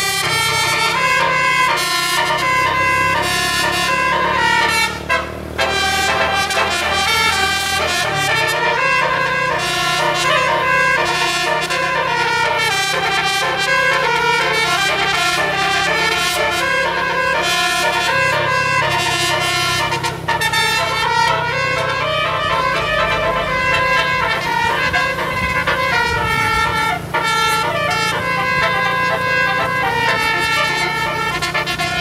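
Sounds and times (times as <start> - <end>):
bus air horn melody: 0.0 - 32.0.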